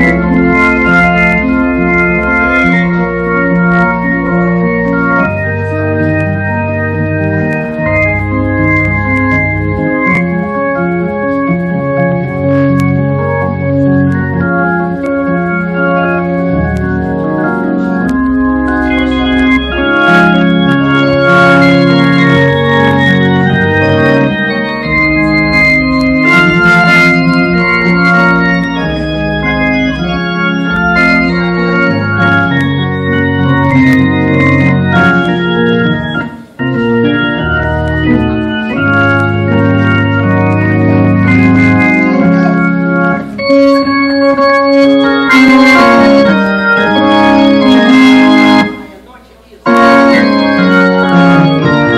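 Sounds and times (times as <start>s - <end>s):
organ playing slow chords: 0.0s - 51.9s.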